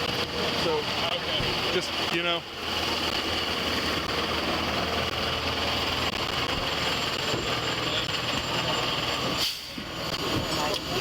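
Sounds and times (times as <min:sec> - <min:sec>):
engine running drone: 0:00.0 - 0:11.0.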